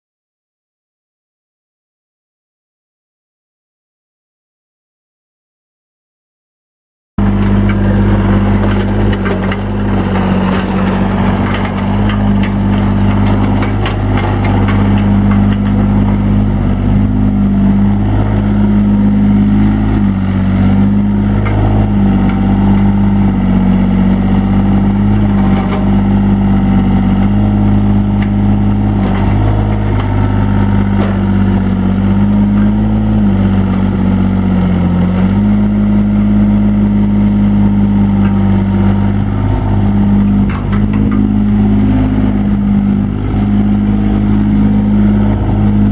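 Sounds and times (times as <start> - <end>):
excavator diesel engine running: 7.2 - 45.9.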